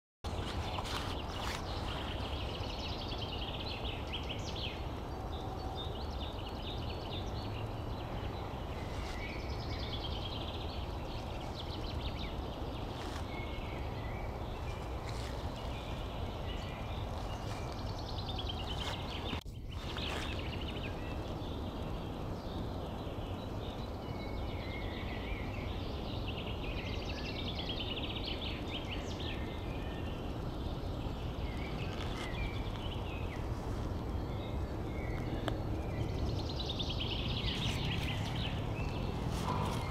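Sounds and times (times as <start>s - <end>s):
low background rush: 0.3s - 39.9s
songbirds trilling: 0.3s - 39.9s.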